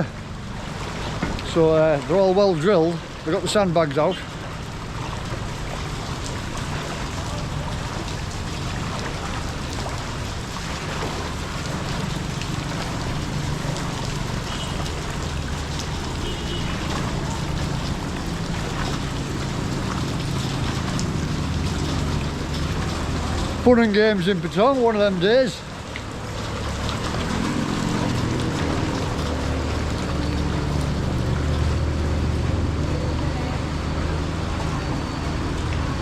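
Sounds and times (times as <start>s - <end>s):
floodwater running and sloshing: 0.0s - 36.0s
vehicle engine droning: 0.0s - 36.0s.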